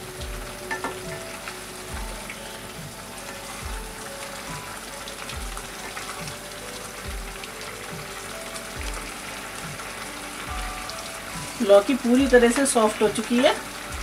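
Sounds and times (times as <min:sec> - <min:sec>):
mixture sizzling and bubbling: 0:00.0 - 0:14.0
soft instrumental music: 0:00.0 - 0:14.0.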